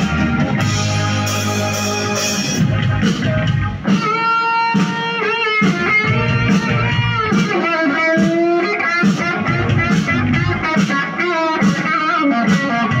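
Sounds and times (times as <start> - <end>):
electric guitar lead: 0.0 - 13.0
live rock band: 0.0 - 13.0.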